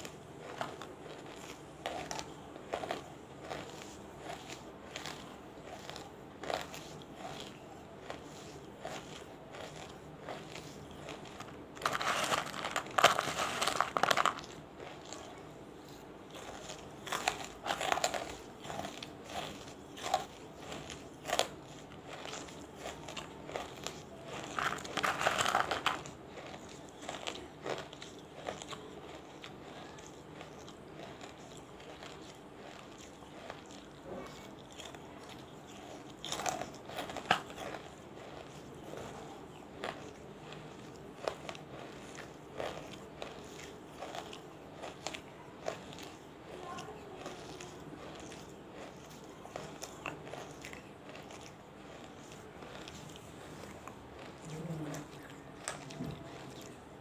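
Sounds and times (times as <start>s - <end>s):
crunching bites and chewing: 0.0s - 57.0s.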